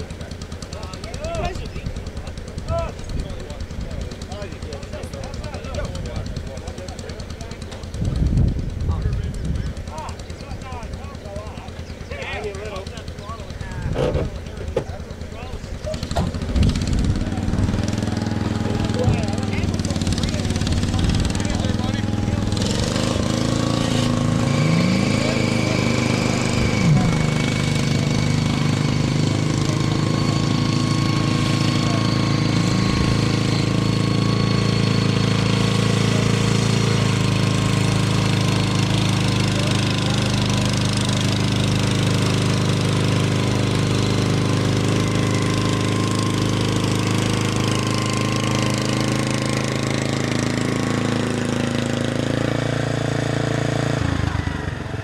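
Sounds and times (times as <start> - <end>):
small tractor engine under load: 0.0 - 55.0.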